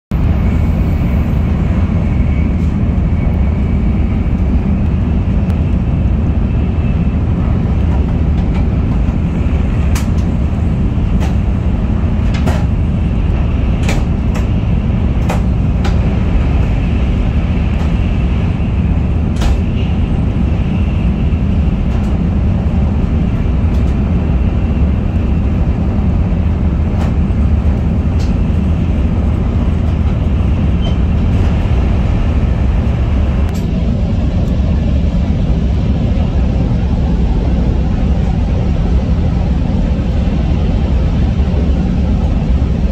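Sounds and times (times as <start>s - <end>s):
train rumbling at speed: 0.1s - 42.9s.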